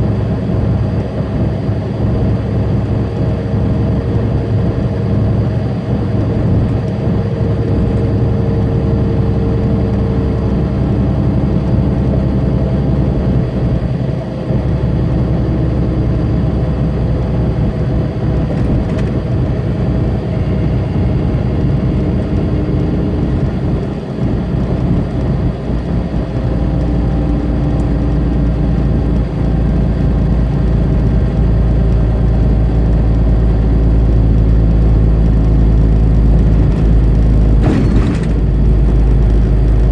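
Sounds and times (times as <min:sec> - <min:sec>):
road noise: 0:00.0 - 0:39.9
truck diesel engine running: 0:00.0 - 0:39.9.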